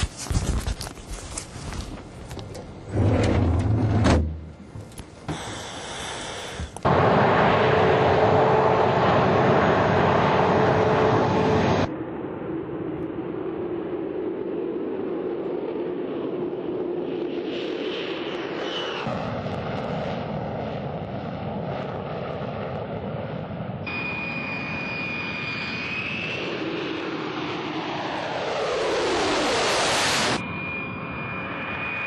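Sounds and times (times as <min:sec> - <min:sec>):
jet engine whine: 0:02.0 - 0:32.0.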